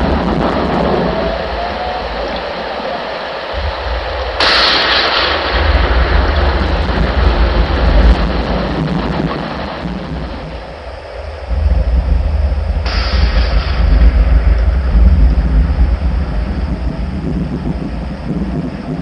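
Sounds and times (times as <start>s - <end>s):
rain-like hiss: 0.0s - 19.0s
thunderclap with deep rumble: 0.0s - 19.0s.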